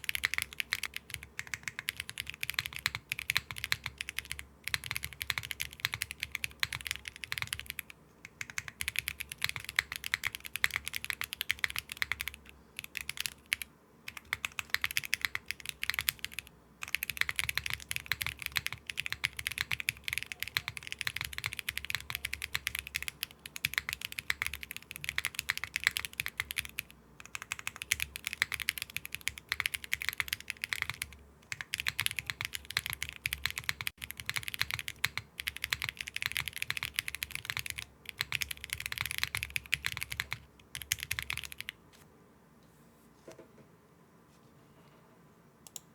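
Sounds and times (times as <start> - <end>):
fast typing on mechanical keyboard: 0.0 - 41.8.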